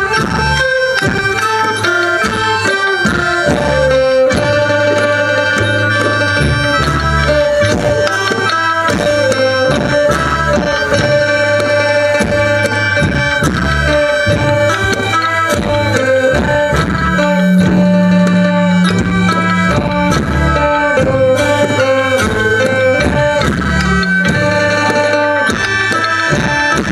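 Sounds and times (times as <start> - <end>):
reedy wind instrument melody: 0.0 - 26.9
steady drum beat: 0.0 - 26.9.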